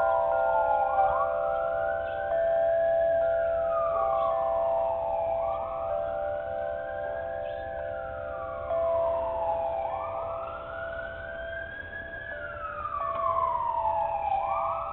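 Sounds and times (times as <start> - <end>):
emergency vehicle siren wailing: 0.0 - 14.9
steady droning tone: 0.0 - 14.9.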